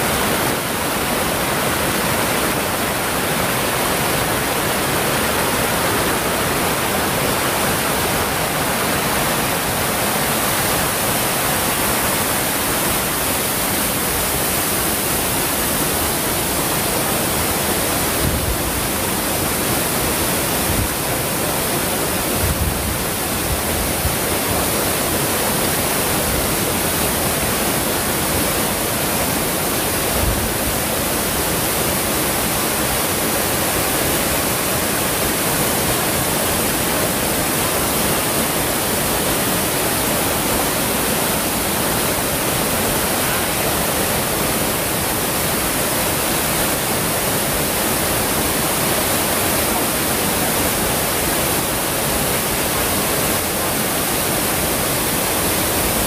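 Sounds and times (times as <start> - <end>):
waterfall roar: 0.0 - 56.0.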